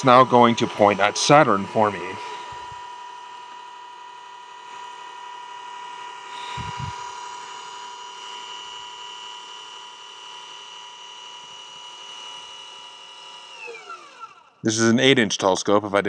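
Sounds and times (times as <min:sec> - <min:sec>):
drive motors whining: 0:00.0 - 0:15.2.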